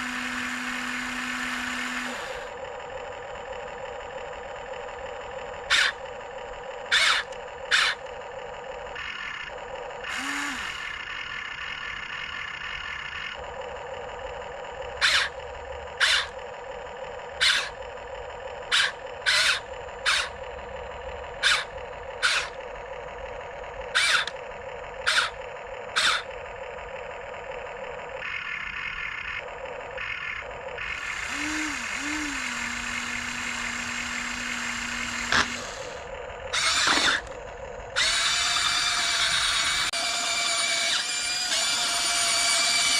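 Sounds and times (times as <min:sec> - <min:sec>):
electric motor and gearbox whine: 0:00.0 - 0:42.9.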